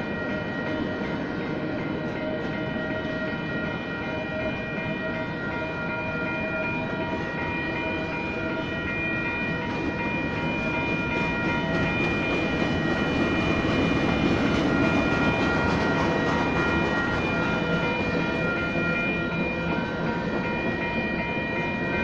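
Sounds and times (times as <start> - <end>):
crossing bells ringing: 0.0 - 22.0
train wheels rumbling on rails: 0.0 - 22.0.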